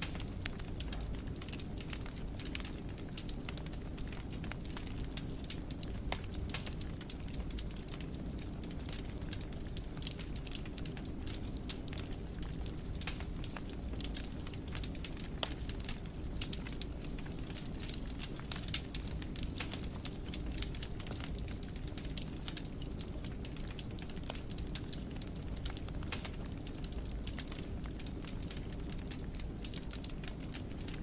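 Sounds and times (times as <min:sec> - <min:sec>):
fire crackling and popping: 0:00.0 - 0:31.0
fire flames rumbling: 0:00.0 - 0:31.0.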